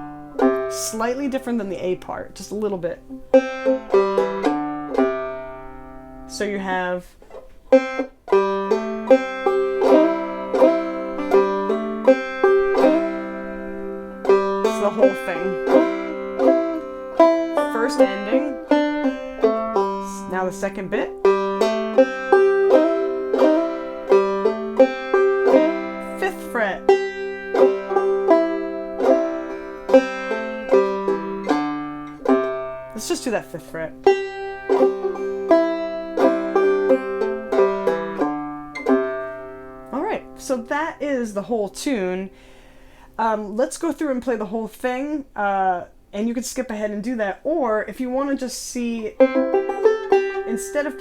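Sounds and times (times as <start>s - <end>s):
banjo picking melody: 0.0s - 51.0s.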